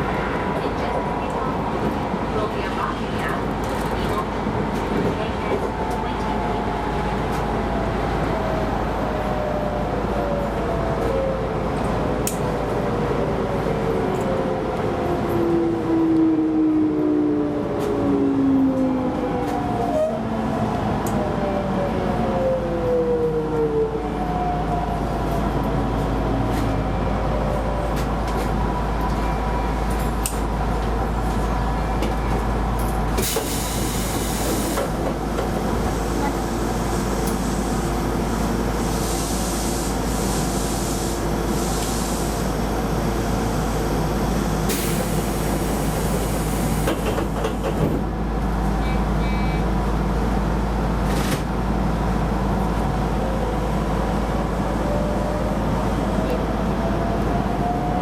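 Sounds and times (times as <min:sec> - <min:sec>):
train wheels rumbling on rail: 0:00.0 - 0:15.4, 0:24.7 - 0:58.0.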